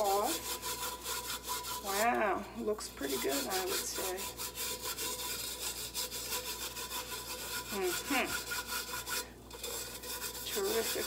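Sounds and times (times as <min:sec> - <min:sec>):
hand brushing a tin can: 0:00.0 - 0:11.0.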